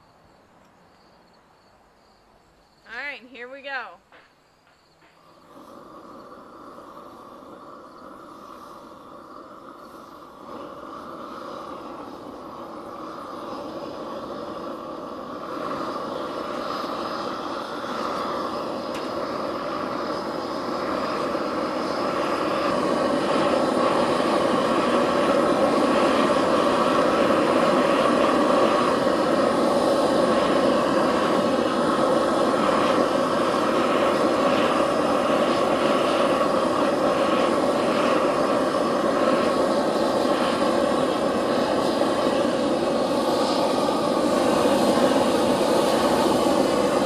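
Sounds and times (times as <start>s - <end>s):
burner flame rushing: 0.0s - 47.0s.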